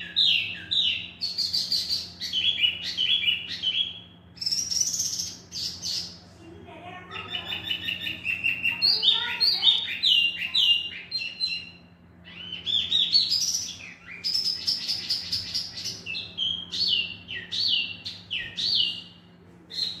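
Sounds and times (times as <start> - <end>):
songbird whistling: 0.0 - 6.2, 7.3 - 20.0.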